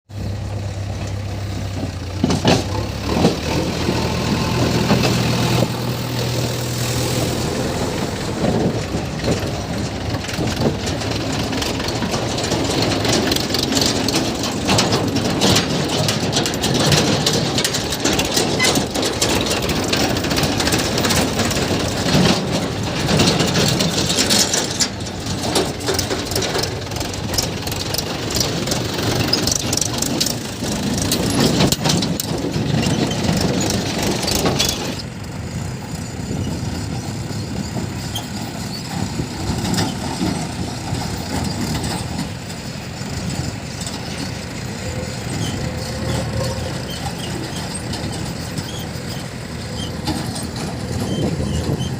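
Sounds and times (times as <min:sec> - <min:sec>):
diesel engines running: 0:00.1 - 0:51.9
knocks and rattles: 0:00.8 - 0:51.9.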